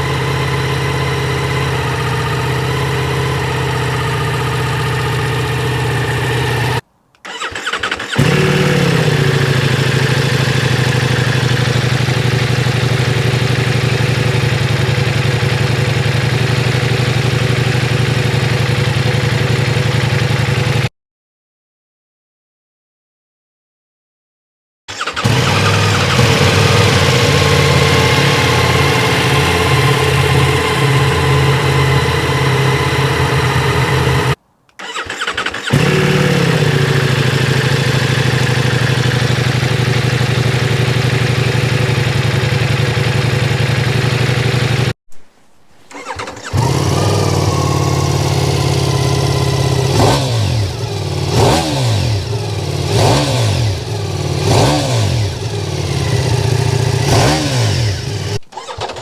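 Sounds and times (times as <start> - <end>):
motorcycle engine idling: 0.0 - 20.9, 24.9 - 34.9, 35.6 - 45.0, 46.0 - 59.0.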